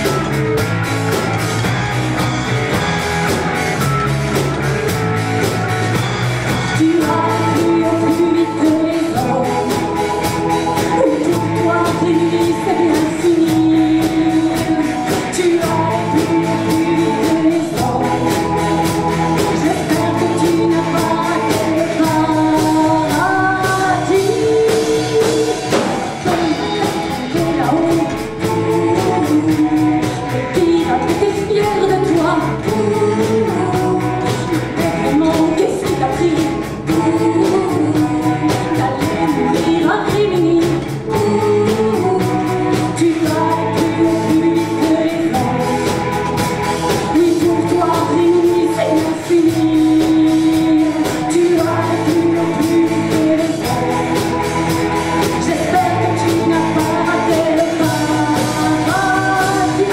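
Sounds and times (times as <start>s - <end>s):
backing singers: 0.0s - 59.9s
live band playing: 0.0s - 59.9s
woman singing lead: 0.0s - 59.9s.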